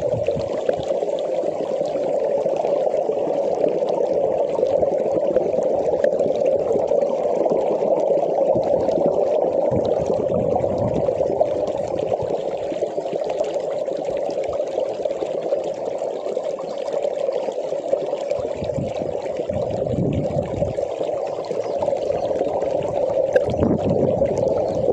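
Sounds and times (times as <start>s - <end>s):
stream water running: 0.0s - 24.9s.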